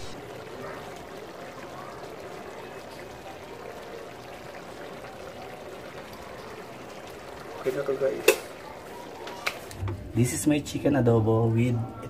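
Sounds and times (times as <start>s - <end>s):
sauce simmering in a frying pan: 0.0s - 12.0s.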